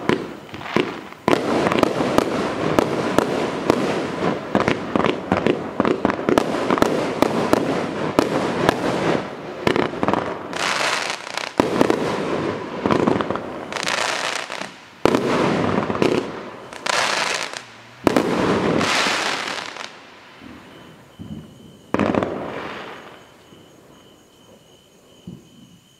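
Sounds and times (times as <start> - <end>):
firework bangs and crackles: 0.0 - 25.9.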